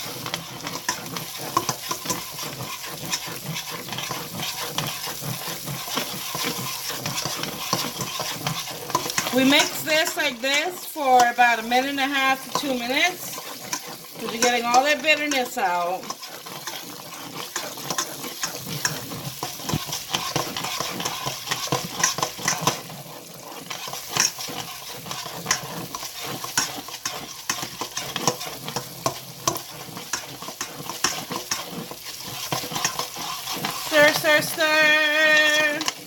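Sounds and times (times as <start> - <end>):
paste sizzling in hot oil: 0.0 - 36.0
utensil scraping a pot: 0.0 - 36.0.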